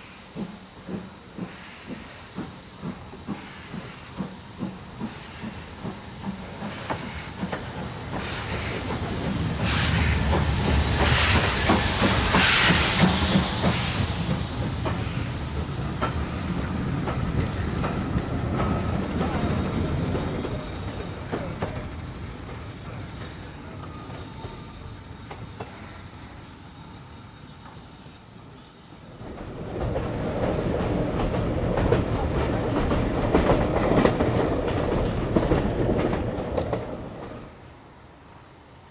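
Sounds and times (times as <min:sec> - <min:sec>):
steam locomotive exhaust beats: 0:00.0 - 0:37.6
loud hiss of steam: 0:00.0 - 0:38.9.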